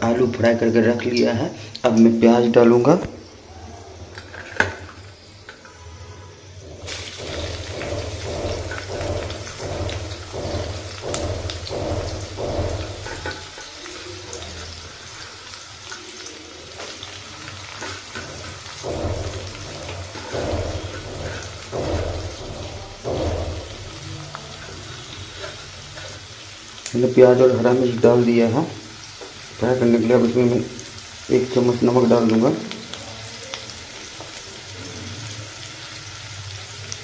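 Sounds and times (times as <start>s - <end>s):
onions sizzling in hot oil: 0.0s - 37.0s.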